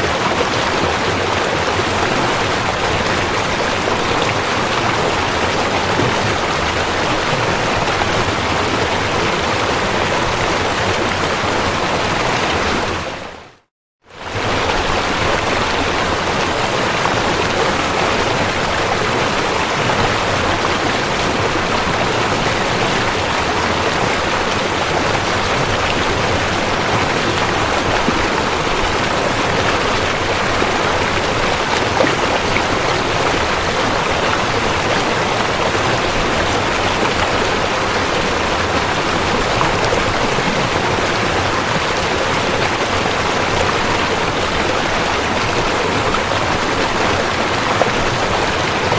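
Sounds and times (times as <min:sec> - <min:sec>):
rushing river water: 0:00.0 - 0:48.9.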